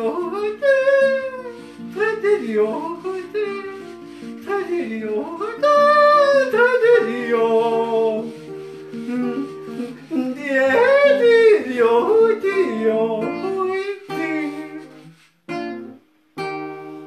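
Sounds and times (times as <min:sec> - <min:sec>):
man yodeling: 0:00.0 - 0:03.9, 0:04.5 - 0:08.3, 0:08.9 - 0:14.9
acoustic guitar: 0:00.0 - 0:17.0.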